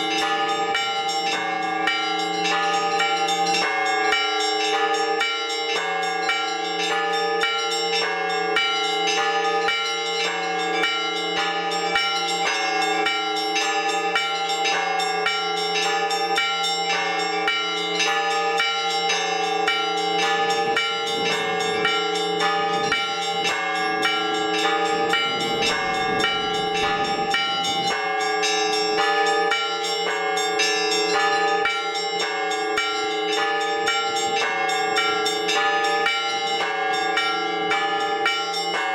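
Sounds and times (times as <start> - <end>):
large bells ringing: 0.0 - 38.9
small bells struck quickly: 0.0 - 38.9.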